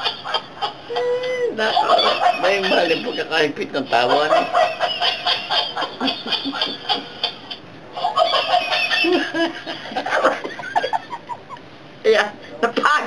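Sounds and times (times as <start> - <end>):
laughter in rapid bursts: 0.0 - 3.3, 4.0 - 11.6.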